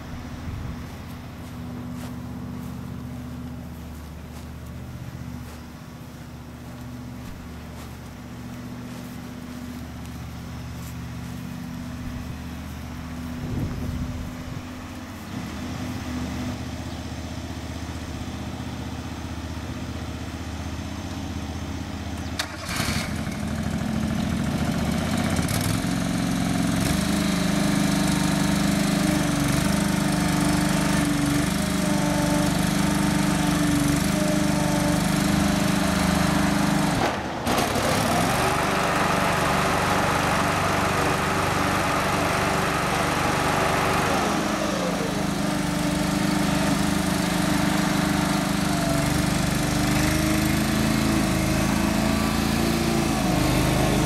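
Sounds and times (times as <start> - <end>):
riding mower engine running: 0.0 - 54.0.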